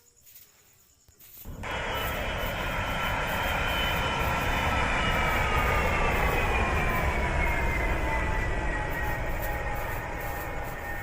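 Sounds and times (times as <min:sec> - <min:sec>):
airplane engines roaring: 0:01.5 - 0:11.0
high engine whine: 0:01.5 - 0:11.0.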